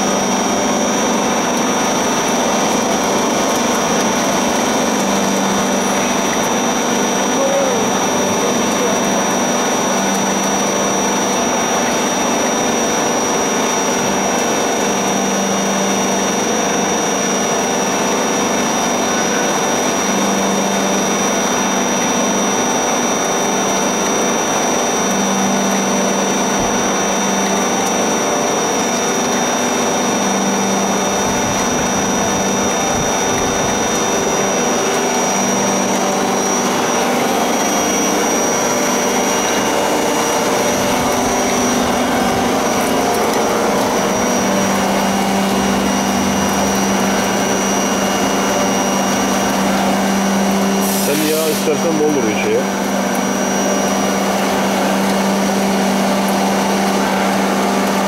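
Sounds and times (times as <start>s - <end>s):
high-pitched mechanical whine: 0.0s - 58.0s
oil press machine running: 0.0s - 58.0s.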